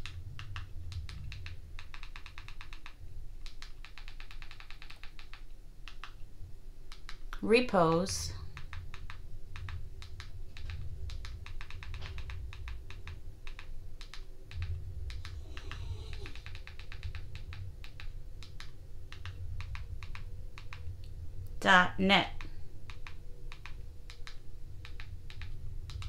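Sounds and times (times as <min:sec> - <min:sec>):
low steady hum: 0:00.0 - 0:04.2, 0:04.9 - 0:26.0.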